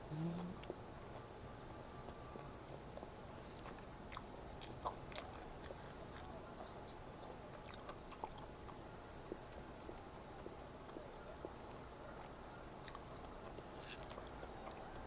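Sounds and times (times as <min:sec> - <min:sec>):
person chewing food: 0:02.0 - 0:11.6, 0:12.2 - 0:15.0.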